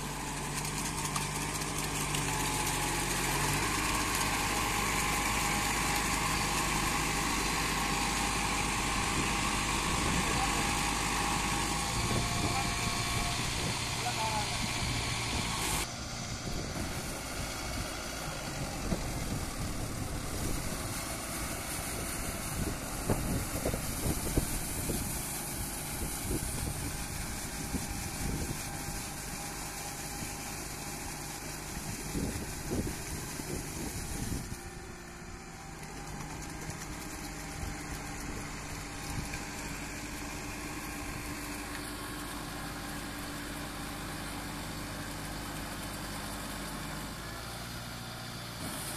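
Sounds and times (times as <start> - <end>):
diesel tractor engine running: 0.0 - 48.9.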